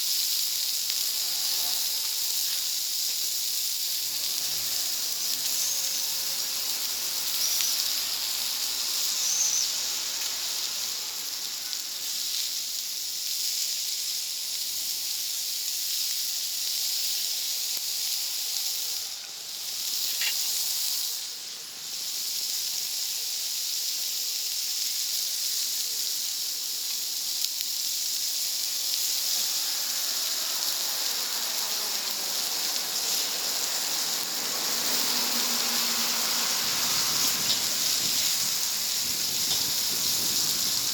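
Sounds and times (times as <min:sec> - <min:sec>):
food sizzling on hot plate: 0:00.0 - 0:40.9.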